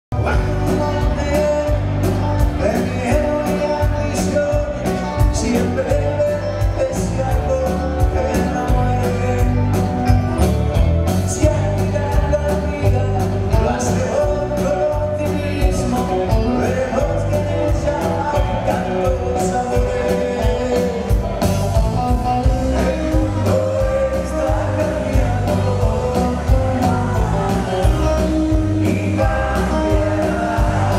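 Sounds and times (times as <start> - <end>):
drum kit beat with cymbals: 0.1 - 30.9
electric bass: 0.1 - 30.9
keyboard: 0.1 - 30.9.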